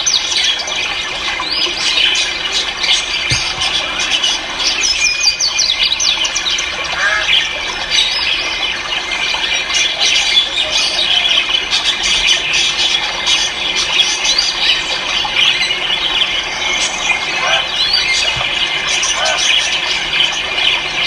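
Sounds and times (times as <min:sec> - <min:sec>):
birds chirping and whistling: 0:00.0 - 0:21.0.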